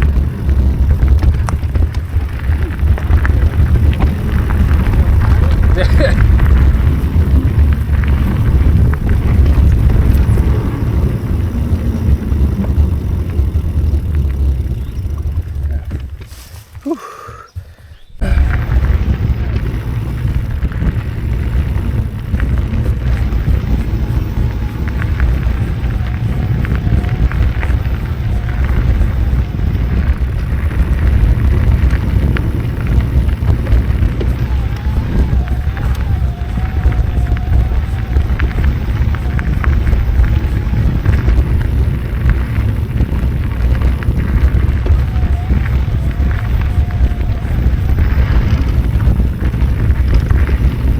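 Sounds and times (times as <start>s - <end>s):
small clicks and rattles: 0.0s - 16.8s, 18.4s - 50.9s
tyres rumbling on dirt trail: 0.0s - 50.9s
wind buffeting microphone: 0.0s - 50.9s.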